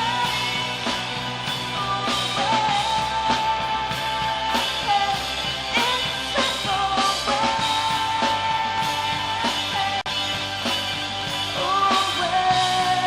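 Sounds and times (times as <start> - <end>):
electric guitars: 0.0 - 13.0.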